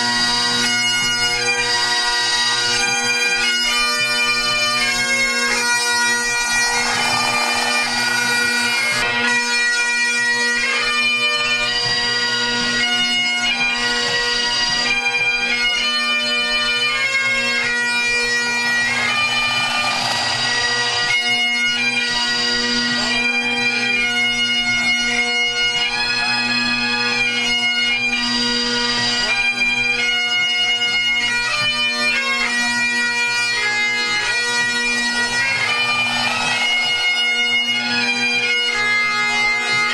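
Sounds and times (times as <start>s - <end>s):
bagpipes playing over drone: 0.0s - 39.9s.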